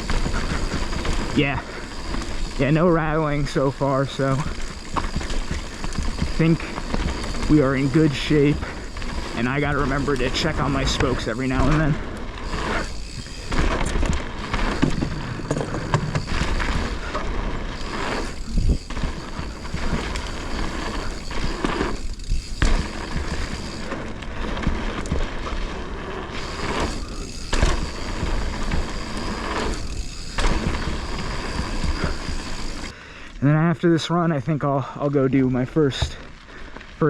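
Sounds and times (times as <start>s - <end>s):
bike chain and frame clatter: 0.0s - 33.0s
bike tyres over dirt and rock: 0.0s - 37.0s.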